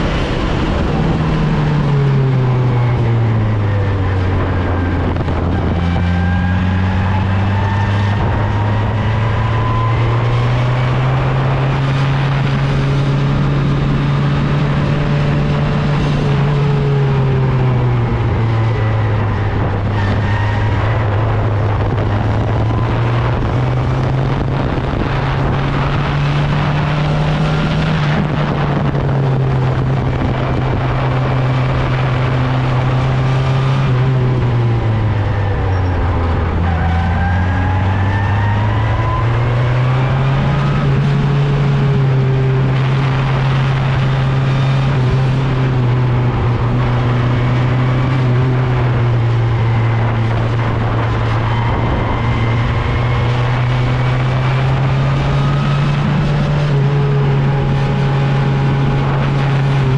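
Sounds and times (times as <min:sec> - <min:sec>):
race car engine running hard: 0:00.0 - 0:59.9
steady rushing noise: 0:00.0 - 0:59.9.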